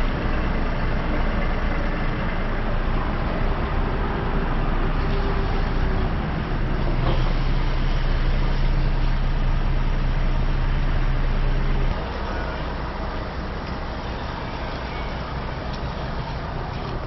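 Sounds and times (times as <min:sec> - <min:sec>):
low steady rumble: 0:00.0 - 0:17.0
road noise: 0:00.0 - 0:17.0
vehicle engine humming: 0:00.0 - 0:17.0.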